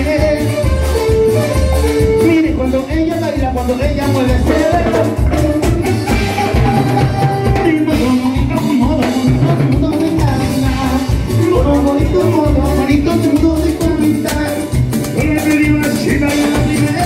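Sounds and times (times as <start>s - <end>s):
latin dance band music: 0.0s - 17.0s.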